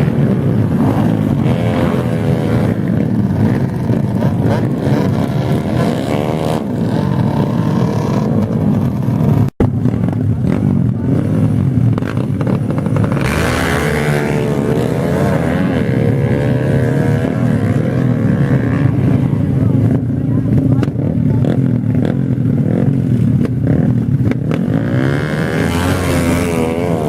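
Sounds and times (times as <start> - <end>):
motorbike engines revving and passing: 0.0 - 27.0.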